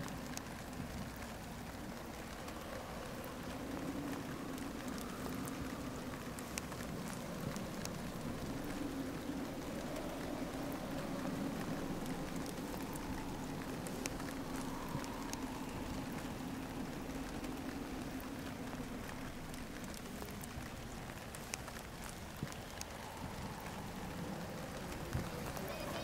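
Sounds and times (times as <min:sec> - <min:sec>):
raindrops ticking close by: 0:00.0 - 0:26.0
steady rain falling: 0:00.0 - 0:26.0.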